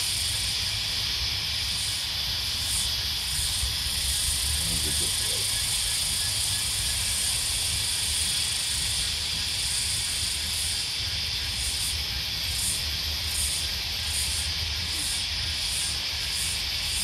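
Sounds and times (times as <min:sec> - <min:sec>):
cicadas shrill drone: 0:00.0 - 0:17.0
pulsing high insect call: 0:00.0 - 0:17.0.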